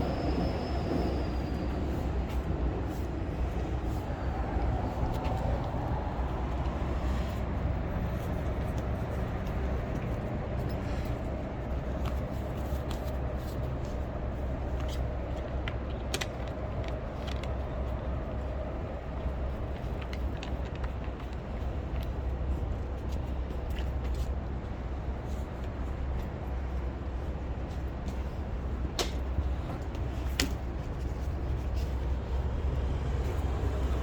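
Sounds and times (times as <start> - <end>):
road vehicles passing: 0.0 - 34.0.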